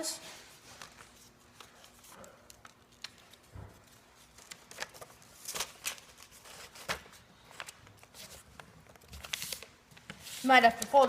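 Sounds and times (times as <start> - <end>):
paper rustling and crinkling: 0.3 - 11.0.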